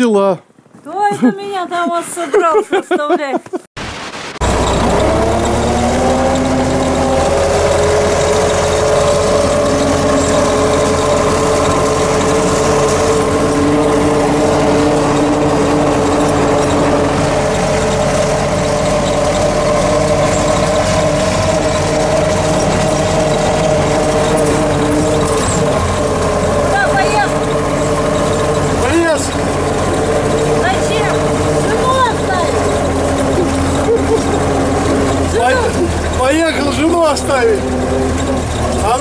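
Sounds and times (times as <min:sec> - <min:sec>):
tractor diesel engine running: 0:04.4 - 0:39.0.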